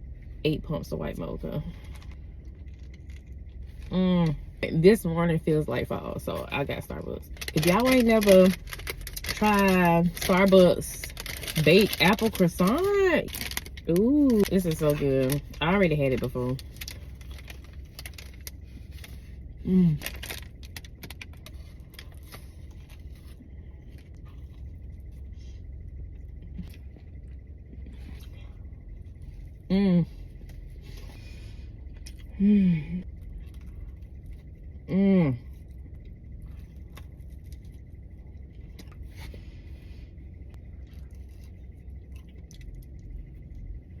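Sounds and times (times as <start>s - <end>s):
low rumble: 0.0s - 44.0s
steady low hum: 0.0s - 44.0s
chewing flaky croissant: 6.4s - 32.4s, 33.0s - 34.8s, 35.4s - 44.0s.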